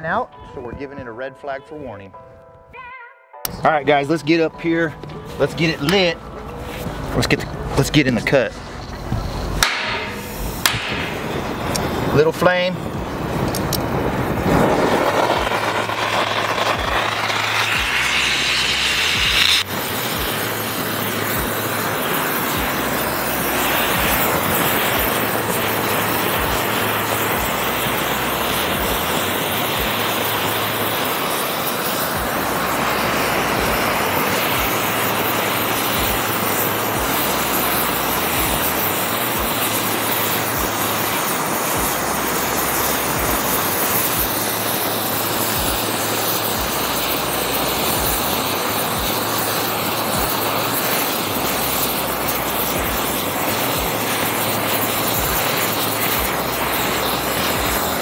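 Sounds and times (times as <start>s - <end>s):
cutting torch flame hissing: 5.1s - 58.0s.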